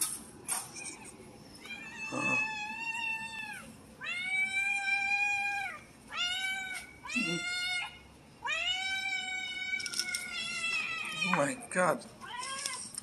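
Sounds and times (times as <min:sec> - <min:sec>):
cat meowing: 0:00.7 - 0:11.4.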